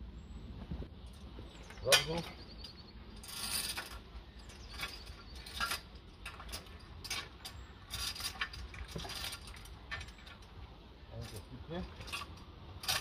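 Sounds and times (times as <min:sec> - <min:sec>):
metal chain clinking and rattling: 0:01.0 - 0:10.6, 0:11.2 - 0:13.0.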